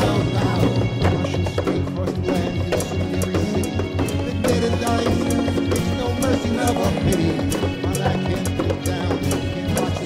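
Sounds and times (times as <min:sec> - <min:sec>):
instrumental song with bass pulse: 0:00.0 - 0:10.0.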